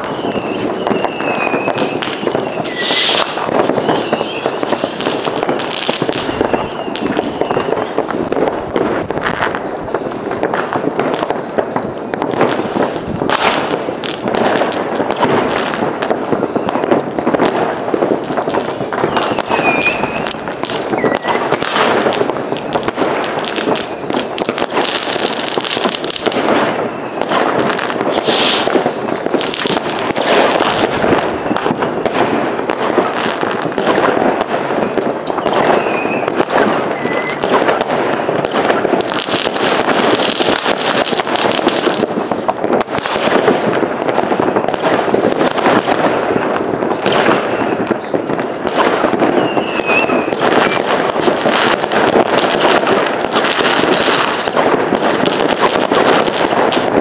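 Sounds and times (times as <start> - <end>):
fireworks bangs and crackles: 0.0 - 57.0
whistling fireworks: 0.0 - 57.0.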